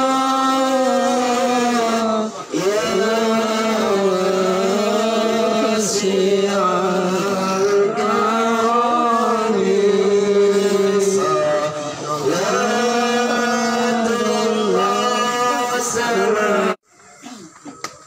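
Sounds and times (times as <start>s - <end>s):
man chanting: 0.0s - 16.8s.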